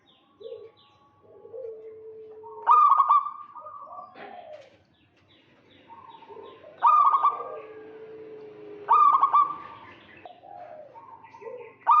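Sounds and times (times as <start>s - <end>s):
dove cooing: 0.0s - 4.8s, 5.8s - 12.0s.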